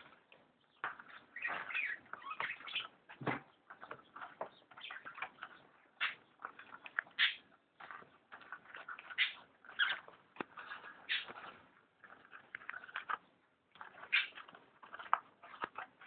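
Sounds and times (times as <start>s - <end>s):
scratching at a tube: 0.0s - 16.0s.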